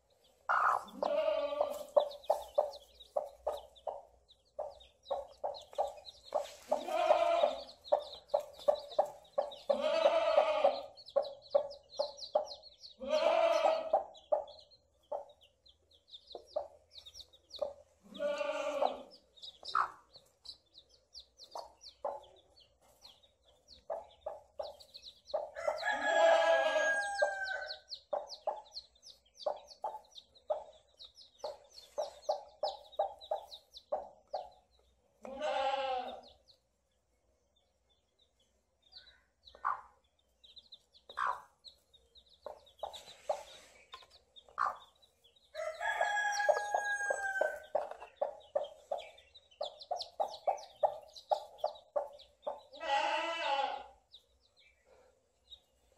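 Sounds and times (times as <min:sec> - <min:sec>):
chicks peeping: 0:00.0 - 0:35.4, 0:36.2 - 0:55.9
hen clucking: 0:00.5 - 0:15.5, 0:16.3 - 0:34.6, 0:39.5 - 0:40.0, 0:41.0 - 0:53.9.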